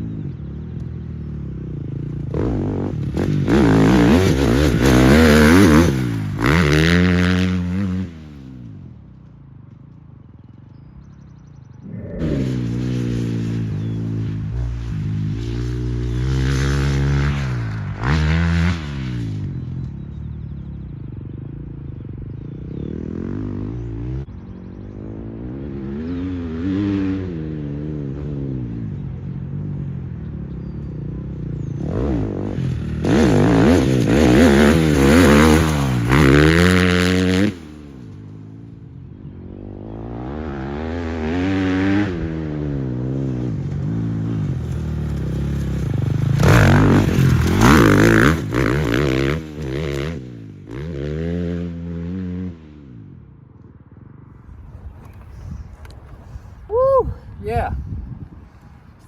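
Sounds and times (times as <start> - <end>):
dirt bike engine revving: 0.0 - 8.8, 11.7 - 53.0.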